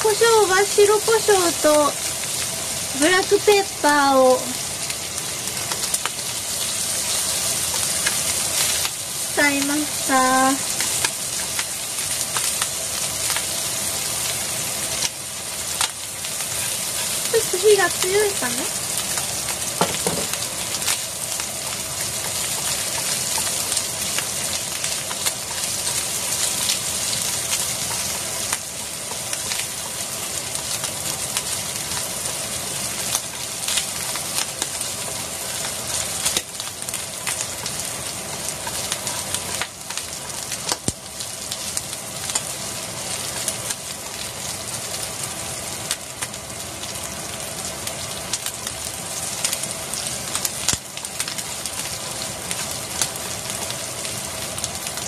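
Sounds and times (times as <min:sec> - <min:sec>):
food sizzling in frying pan: 0:00.0 - 0:55.0.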